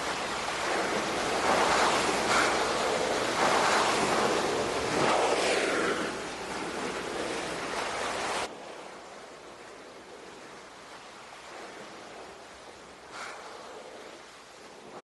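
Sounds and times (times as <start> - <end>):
water and wind hiss: 0.0 - 15.0.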